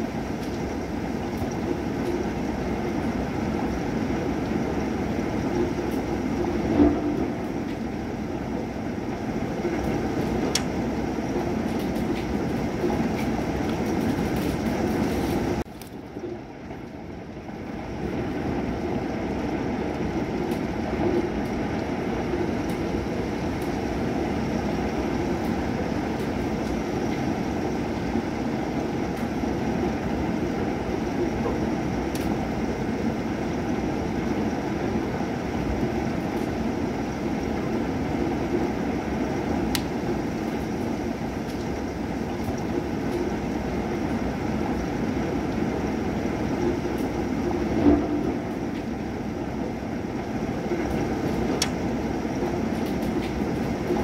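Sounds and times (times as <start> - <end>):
low thunder rumble: 0.0 - 54.0
steady rain: 0.0 - 54.0.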